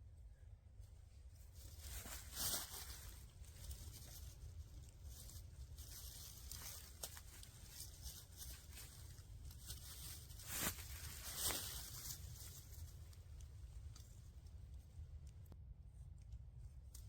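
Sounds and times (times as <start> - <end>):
faint rustling and scraping: 0.3 - 15.6.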